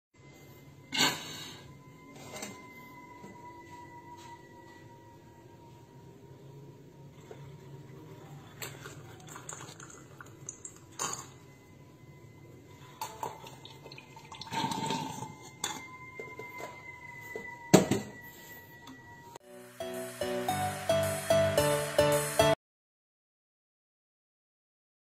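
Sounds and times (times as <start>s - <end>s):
faint steady high tone: 0.2s - 9.3s, 10.1s - 22.6s.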